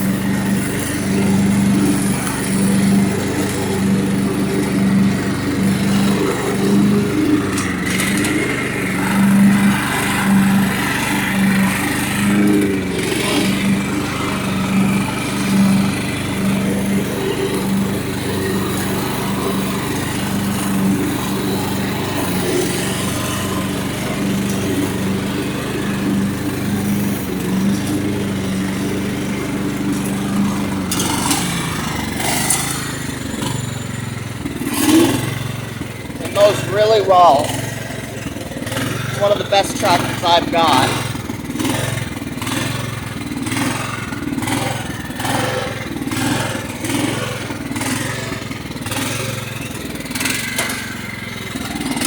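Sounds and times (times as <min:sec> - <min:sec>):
lawn tractor engine pulsing: 0:00.0 - 0:52.0.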